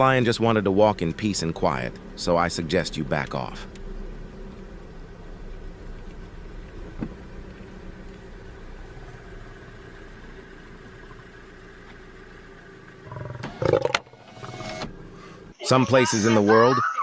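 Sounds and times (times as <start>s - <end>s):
vehicle engine idling: 0.0s - 15.6s.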